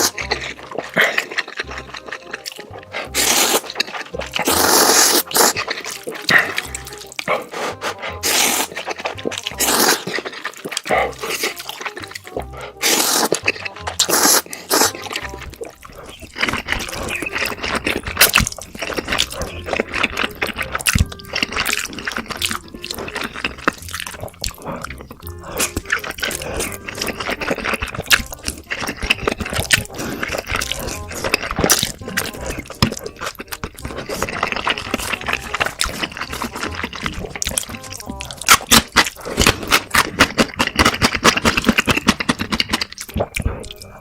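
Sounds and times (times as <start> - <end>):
background music: 0.0 - 44.0
slurping noodles: 0.0 - 44.0
wet chewing: 0.0 - 44.0.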